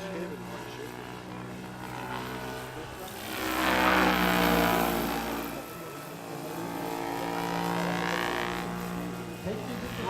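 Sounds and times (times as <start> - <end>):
model helicopter motor whine: 0.0 - 10.0
rotors whirring: 0.0 - 10.0.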